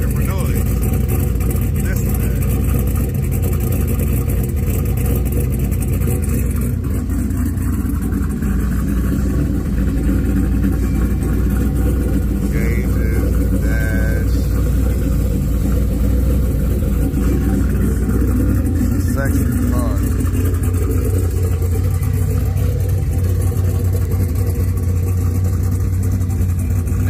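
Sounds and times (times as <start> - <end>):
turbocharged car engine idling: 0.0 - 27.0.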